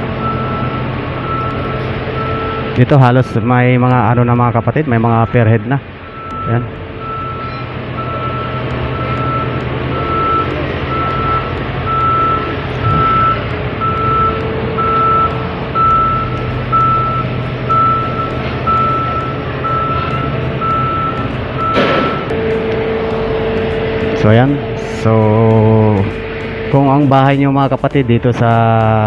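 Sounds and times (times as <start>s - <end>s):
diesel engine running: 0.0s - 29.0s
reversing alarm beeping: 0.0s - 29.0s.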